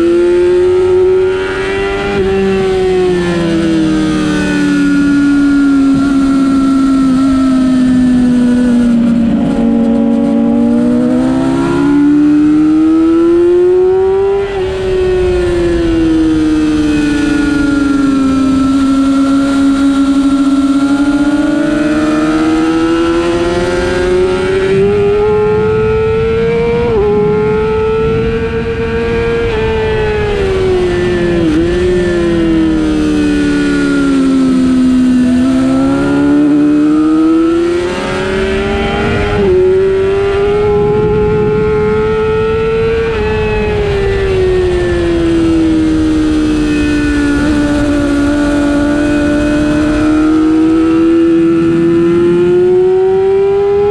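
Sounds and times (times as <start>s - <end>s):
race motorcycle engine: 0.0s - 53.9s
wind noise: 0.0s - 53.9s.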